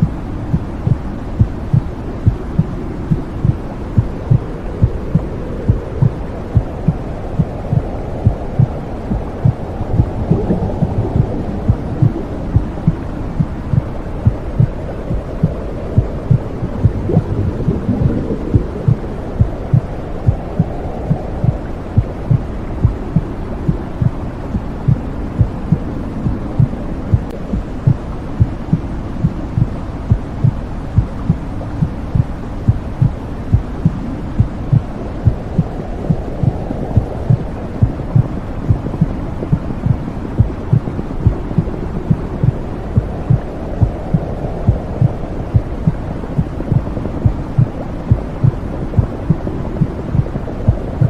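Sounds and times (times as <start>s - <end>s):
low whooshing rumble: 0.0s - 51.0s
muffled heartbeat thumping: 0.0s - 51.0s.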